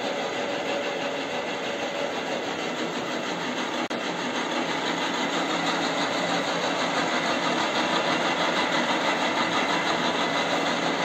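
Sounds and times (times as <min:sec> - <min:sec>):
milling machine running: 0:00.0 - 0:11.0.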